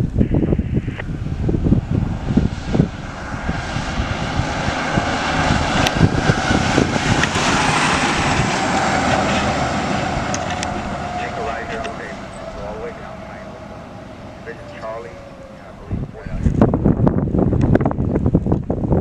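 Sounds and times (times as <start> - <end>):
propeller aircraft engine drone: 0.0 - 19.0.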